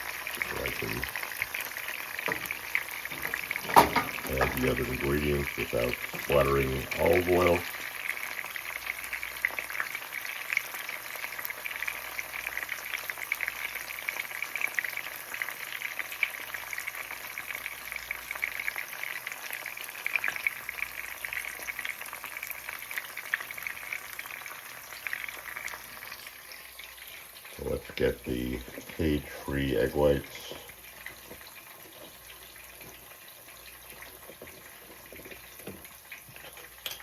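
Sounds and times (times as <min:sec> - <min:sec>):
mushrooms sizzling in a pan: 0:00.0 - 0:37.0.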